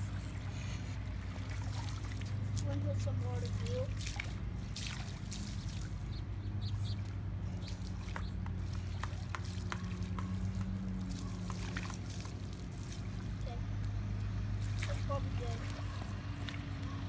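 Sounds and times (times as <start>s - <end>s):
steady low hum: 0.0s - 17.0s
water splashing on concrete: 1.0s - 13.9s, 14.6s - 16.9s.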